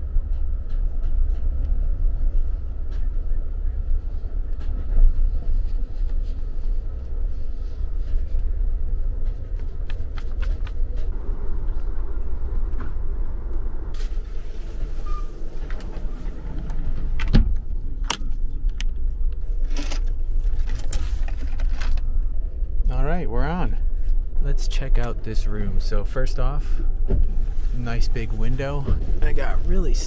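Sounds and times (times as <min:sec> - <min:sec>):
train interior rumble: 0:00.0 - 0:30.0.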